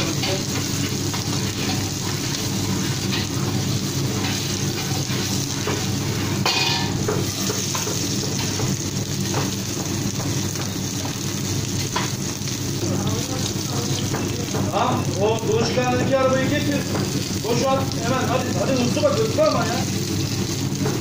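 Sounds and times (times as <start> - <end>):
fish sizzling in a frying pan: 0.0 - 21.0.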